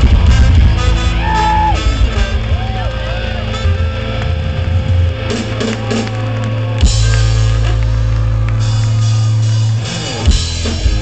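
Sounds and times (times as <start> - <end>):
ska punk band playing: 0.0 - 11.0.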